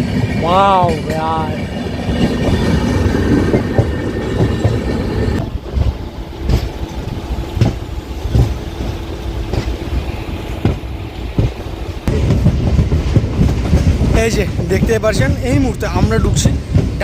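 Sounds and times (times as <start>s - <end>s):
train rumble: 0.0s - 17.0s
wheels clacking over rail joints: 0.0s - 17.0s.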